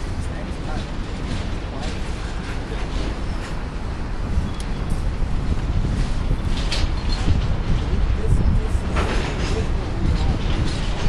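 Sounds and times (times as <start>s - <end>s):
hopper cars rumbling: 0.0s - 11.0s
wind buffeting microphone: 0.0s - 11.0s.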